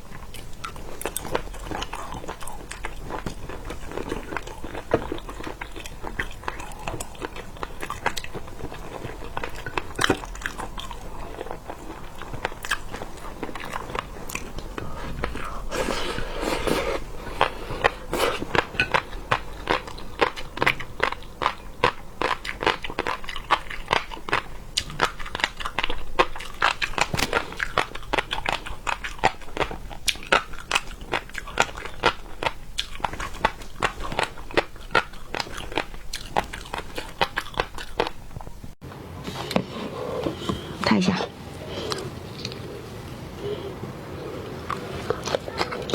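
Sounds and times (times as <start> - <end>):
person chewing crunchy food: 0.0 - 38.8, 44.6 - 45.9.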